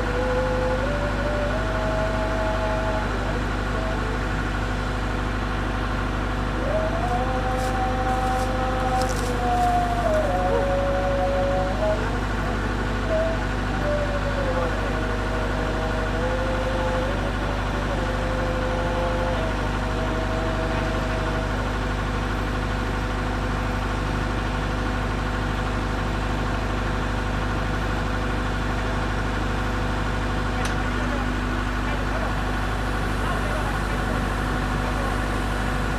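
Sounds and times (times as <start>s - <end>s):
diesel engine idling: 3.0s - 13.7s, 17.1s - 35.9s.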